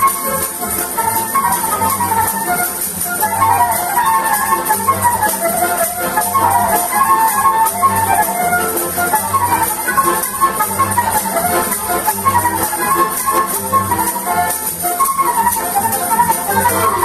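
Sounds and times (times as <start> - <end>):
flute melody: 0.0 - 17.0
folk ensemble playing a polka: 0.0 - 17.0.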